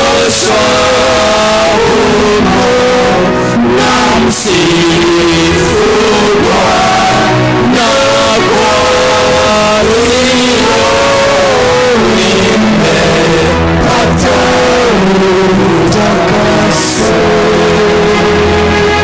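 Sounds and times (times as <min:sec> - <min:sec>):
accompanying instruments: 0:00.0 - 0:19.0
person singing: 0:00.0 - 0:19.0.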